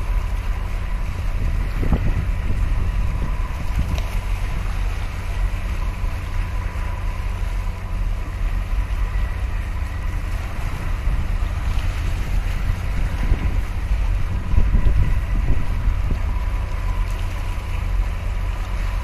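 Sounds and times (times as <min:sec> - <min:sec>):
choppy sea water: 0:00.0 - 0:19.0
wind buffeting microphone: 0:00.0 - 0:19.0.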